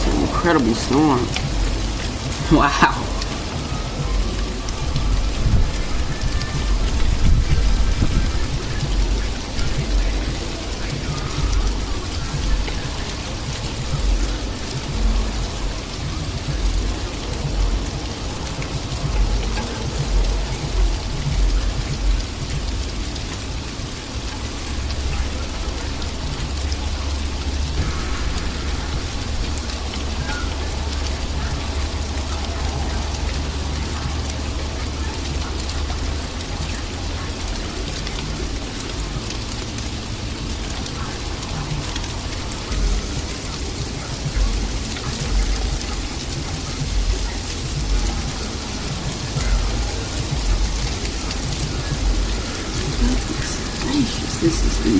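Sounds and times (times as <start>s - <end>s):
wind buffeting microphone: 0.0s - 53.8s.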